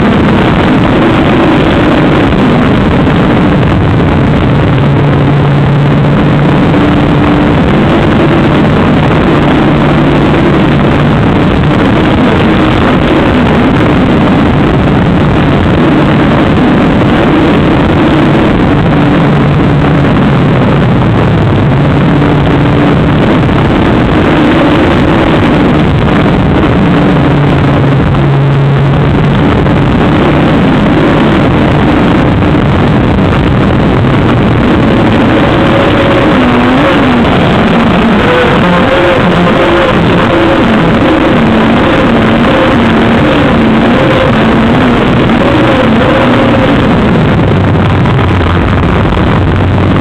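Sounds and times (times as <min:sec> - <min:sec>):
wind rush: 0:00.0 - 0:50.0.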